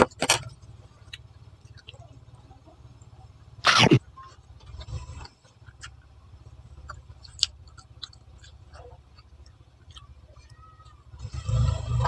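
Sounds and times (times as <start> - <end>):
person chewing: 0.0 - 2.9, 3.6 - 11.3.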